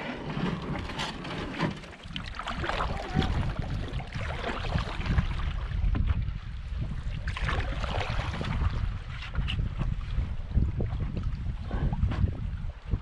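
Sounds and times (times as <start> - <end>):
canoe paddle stroking water: 0.0 - 12.4
wind rumble on microphone: 0.0 - 13.0.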